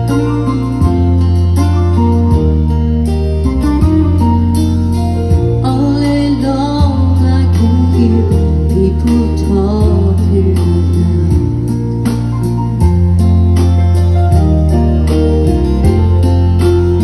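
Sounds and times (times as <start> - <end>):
country band slow ballad: 0.0 - 17.0.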